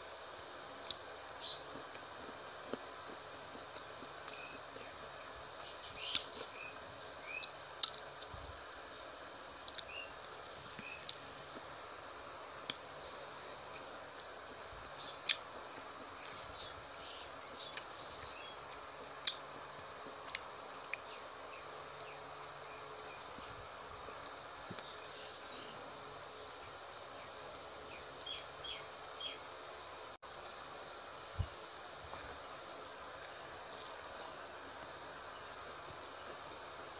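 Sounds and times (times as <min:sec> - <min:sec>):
faint steady hiss: 0:00.0 - 0:36.9.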